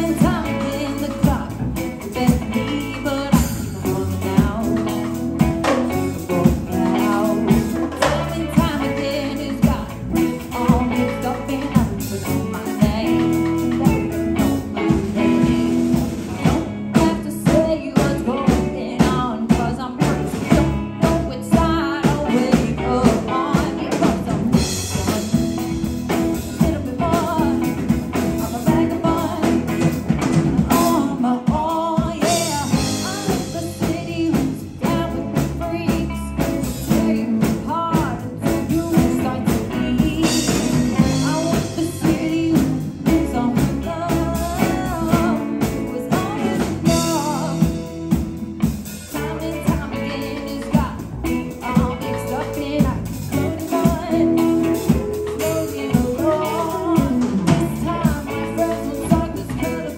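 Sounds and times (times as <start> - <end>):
drum kit: 0.0 - 59.9
electric bass: 0.0 - 59.9
electric guitars: 0.0 - 59.9
woman singing lead: 0.0 - 59.9.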